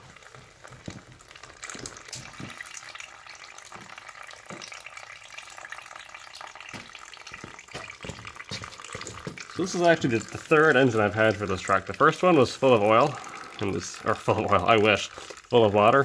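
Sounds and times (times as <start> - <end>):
oil drips: 0.0 - 16.0
oil pouring into drain pan: 0.0 - 16.0.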